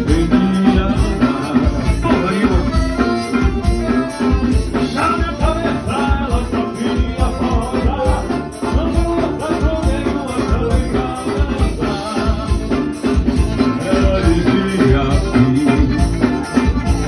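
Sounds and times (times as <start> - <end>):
loud music with drum beat: 0.0 - 17.0.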